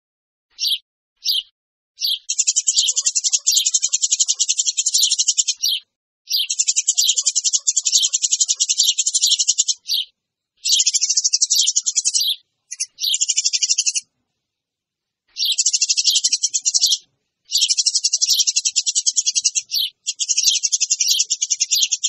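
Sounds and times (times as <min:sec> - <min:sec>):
sparrow chattering: 0:00.5 - 0:14.1, 0:15.3 - 0:22.0.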